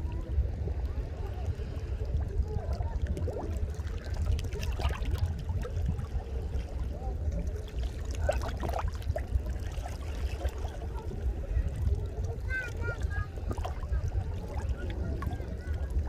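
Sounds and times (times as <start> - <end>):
faint voices: 0.0 - 16.0
sea water splashing: 0.0 - 16.0.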